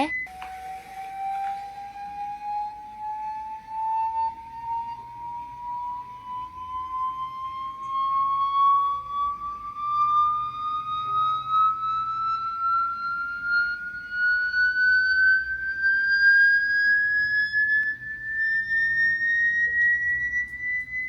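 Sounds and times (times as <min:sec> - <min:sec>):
rising test tone sweep: 0:00.0 - 0:21.0.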